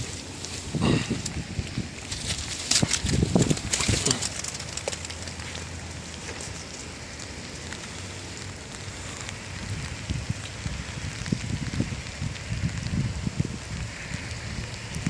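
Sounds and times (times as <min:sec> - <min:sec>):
crackling: 0:00.0 - 0:15.0
steady rain falling: 0:00.0 - 0:15.0.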